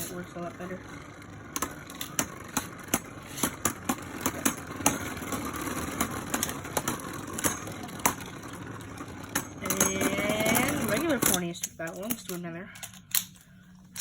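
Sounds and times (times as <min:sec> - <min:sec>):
spinning tops whirring: 0:00.0 - 0:12.2
spinning tops clacking together: 0:01.5 - 0:14.0.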